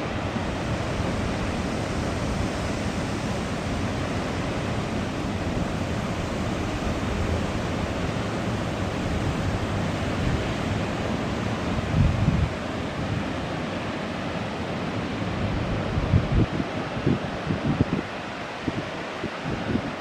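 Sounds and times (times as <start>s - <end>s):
wind buffeting microphone: 0.0s - 13.3s, 15.3s - 20.0s.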